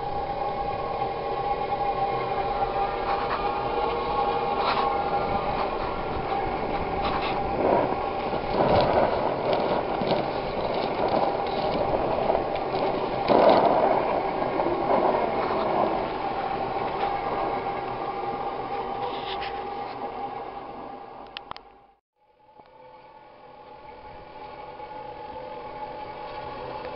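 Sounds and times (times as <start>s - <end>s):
blower whirring with whine: 0.0s - 26.9s.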